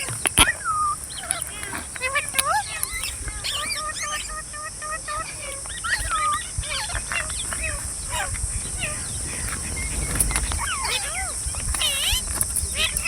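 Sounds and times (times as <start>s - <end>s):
parrots chirping and squawking: 0.0s - 13.0s
steady high hiss: 0.0s - 13.0s.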